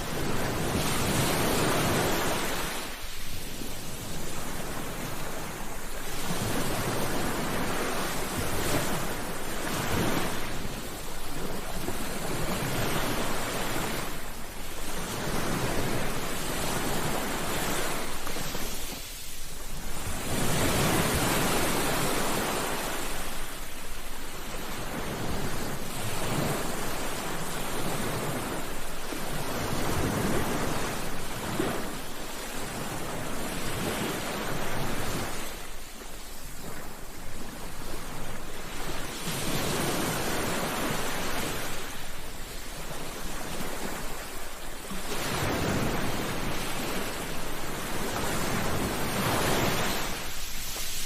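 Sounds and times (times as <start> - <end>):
waves breaking on a beach: 0.0 - 51.0.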